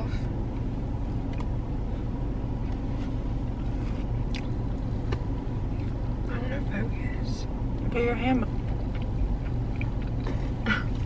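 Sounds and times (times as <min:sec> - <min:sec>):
car idling hum: 0:00.0 - 0:11.0.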